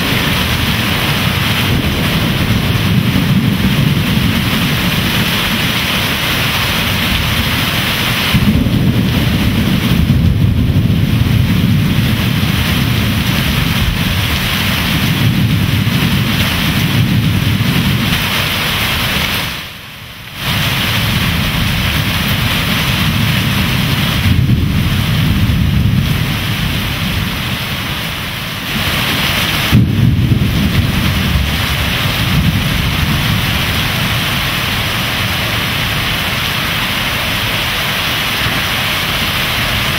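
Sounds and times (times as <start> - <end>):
sharp thunderclap: 0.0 - 19.1, 20.4 - 36.2
thunder rumbling: 0.0 - 39.9
torrential rain: 0.0 - 39.9.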